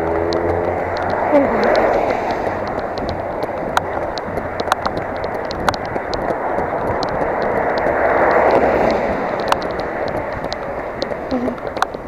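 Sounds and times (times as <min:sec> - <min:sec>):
car on wet road: 0:00.0 - 0:12.0
raindrops ticking on camera: 0:00.0 - 0:12.0
wind and rain rushing: 0:00.0 - 0:12.0.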